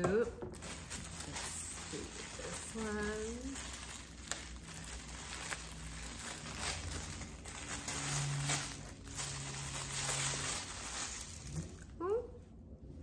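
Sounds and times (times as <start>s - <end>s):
low steady hum: 0.0s - 13.0s
plastic bag crinkling: 0.5s - 12.0s.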